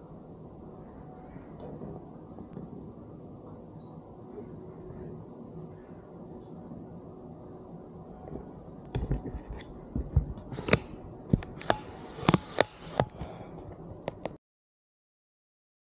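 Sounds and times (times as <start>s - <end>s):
low room hum: 0.0s - 14.4s.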